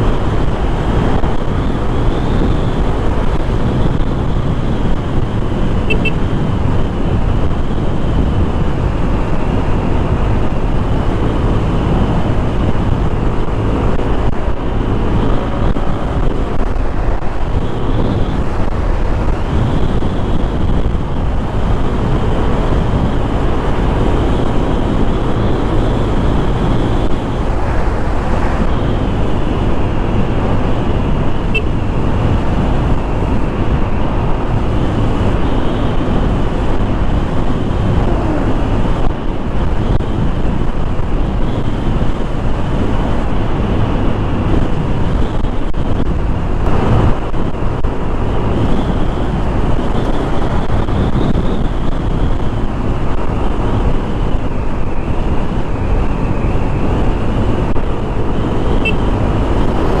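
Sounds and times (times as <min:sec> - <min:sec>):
wind noise on microphone: 0:00.0 - 1:00.0.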